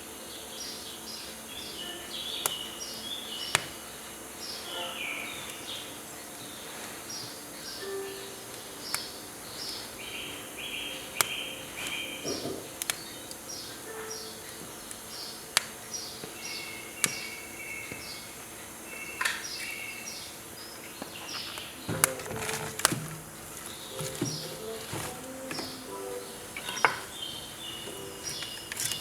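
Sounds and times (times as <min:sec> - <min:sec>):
firewood crackling in a stove: 0:00.0 - 0:04.7, 0:05.4 - 0:29.0
small birds chirping: 0:00.0 - 0:29.0.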